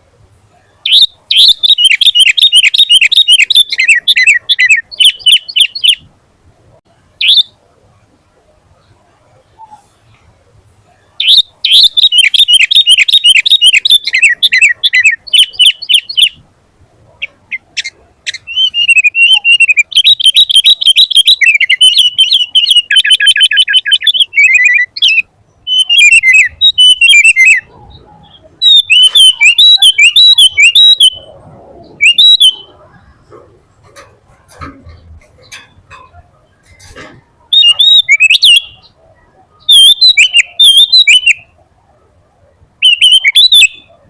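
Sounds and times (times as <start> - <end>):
bird singing chattering notes: 0.8 - 6.1, 11.2 - 16.4, 17.2 - 39.0, 39.6 - 41.6, 42.8 - 44.0.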